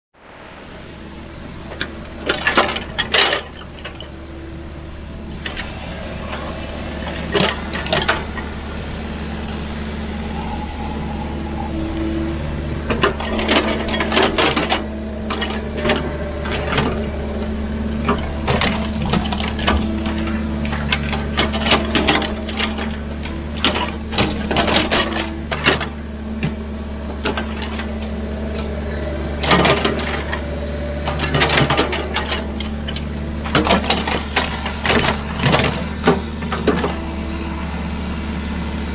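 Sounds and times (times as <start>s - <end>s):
excavator diesel engine: 0.5s - 38.9s.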